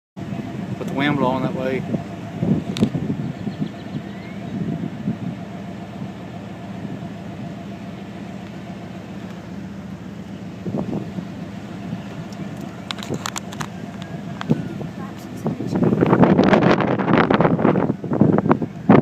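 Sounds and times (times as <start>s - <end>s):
steady low hum: 0.2s - 19.0s.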